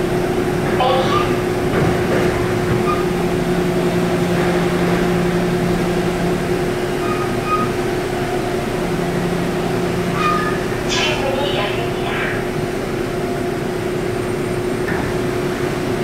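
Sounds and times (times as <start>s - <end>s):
subway train rumble and hiss: 0.0s - 16.0s.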